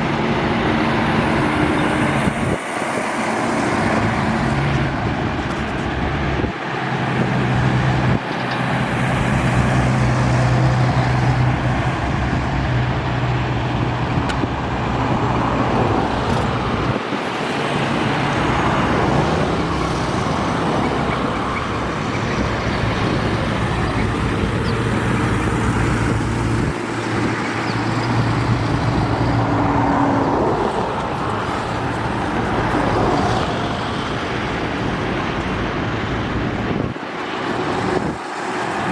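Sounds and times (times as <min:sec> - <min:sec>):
truck engines droning: 0:00.0 - 0:38.9
tyre and road noise: 0:00.0 - 0:38.9.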